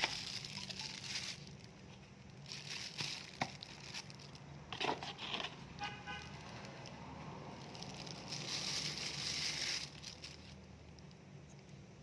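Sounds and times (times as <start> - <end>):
packaging rustling and crinkling: 0.0 - 11.1.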